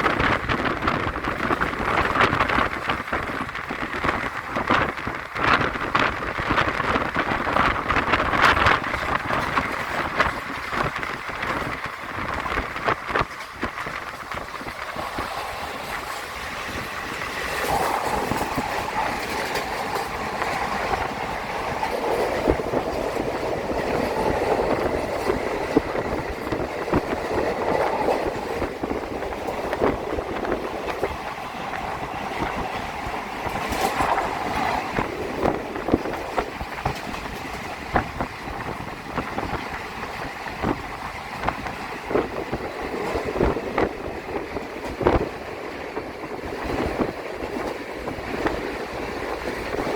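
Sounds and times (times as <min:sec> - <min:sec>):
train rushing on rails: 0:00.0 - 0:49.9
wheels clattering on track: 0:00.0 - 0:49.9.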